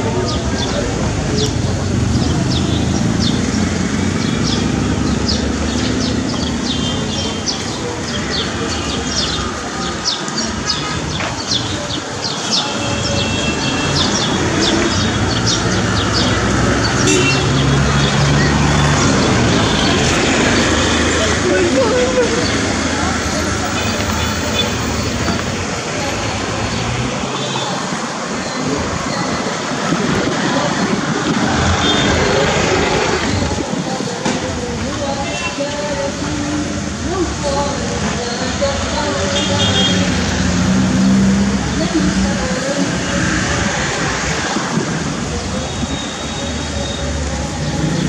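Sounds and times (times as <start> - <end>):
street noise: 0.0 - 48.0
traffic: 0.0 - 48.0.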